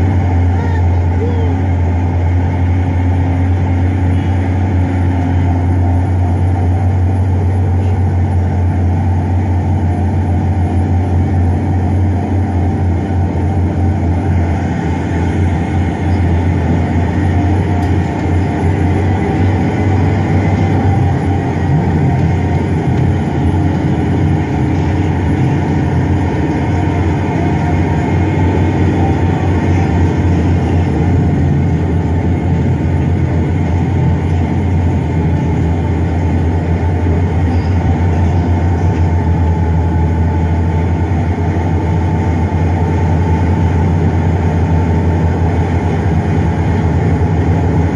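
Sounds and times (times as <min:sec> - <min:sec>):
diesel truck engines rumbling: 0:00.0 - 0:47.9.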